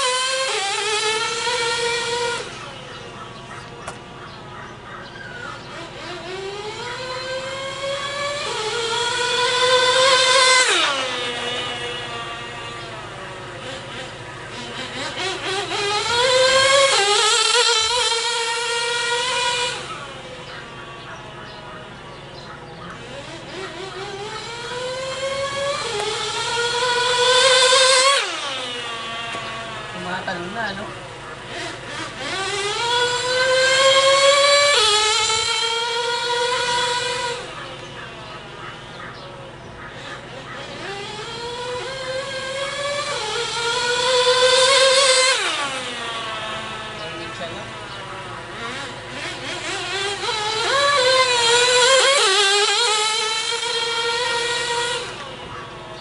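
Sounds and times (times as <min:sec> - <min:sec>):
rc car engine whining: 0:00.0 - 0:56.0.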